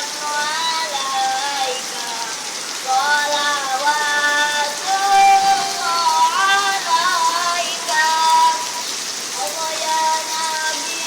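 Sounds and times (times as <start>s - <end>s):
person singing devotional chant: 0.0s - 11.0s
steady rain: 0.0s - 11.0s.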